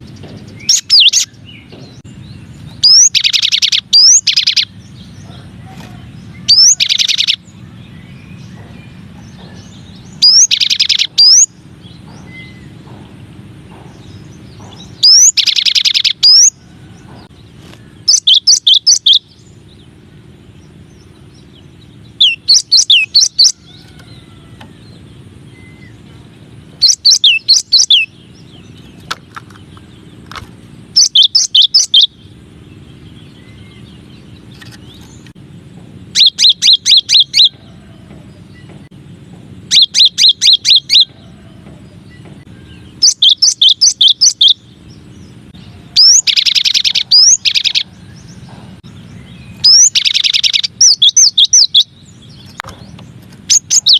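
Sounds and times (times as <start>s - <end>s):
bird song with high sweeping notes: 0.0s - 53.9s
steady low hum: 0.0s - 53.9s.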